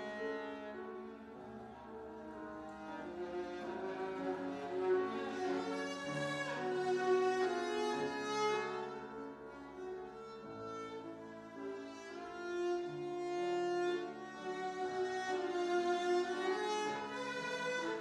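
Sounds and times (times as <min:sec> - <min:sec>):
piano accompaniment: 0:00.0 - 0:18.0
viola bowing long notes: 0:00.0 - 0:18.0.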